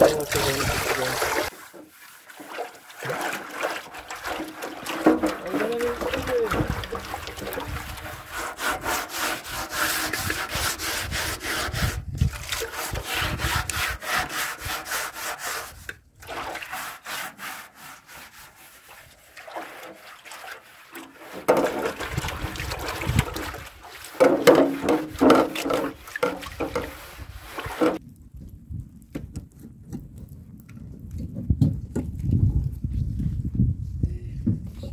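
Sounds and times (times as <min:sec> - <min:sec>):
hand scraping curd in metal basin: 0:00.0 - 0:28.0.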